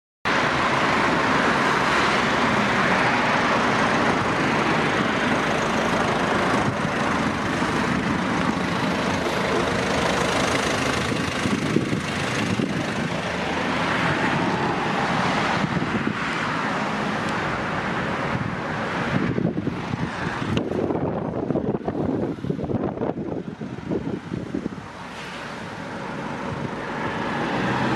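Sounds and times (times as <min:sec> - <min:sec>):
road traffic: 0:00.2 - 0:27.9
wind on microphone: 0:02.0 - 0:27.9.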